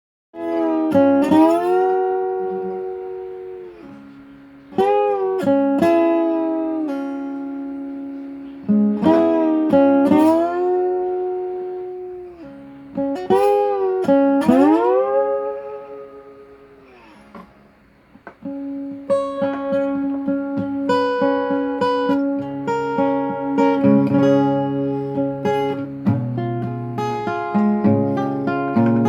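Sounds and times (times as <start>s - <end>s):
solo blues guitar: 0.4s - 29.0s.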